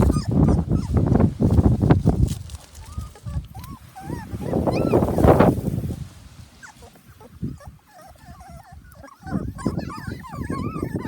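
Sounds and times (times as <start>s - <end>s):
puppies whimpering and squealing: 0.0s - 1.4s, 2.6s - 11.0s.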